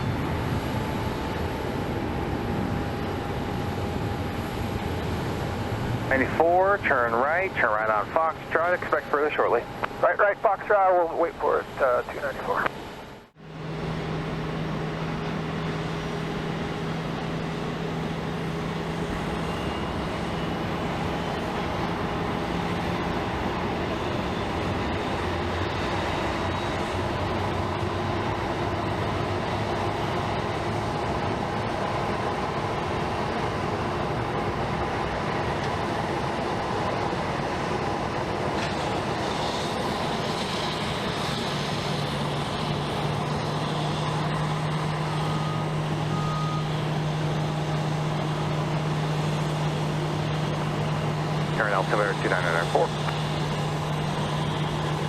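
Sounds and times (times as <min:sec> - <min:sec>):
jet airliner engines running: 0:00.0 - 0:55.0.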